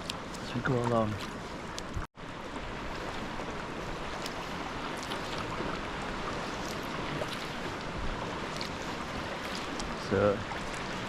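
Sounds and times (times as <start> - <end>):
paddle drips and splashes: 0.0 - 11.0
water sloshing around kayak: 0.0 - 11.0.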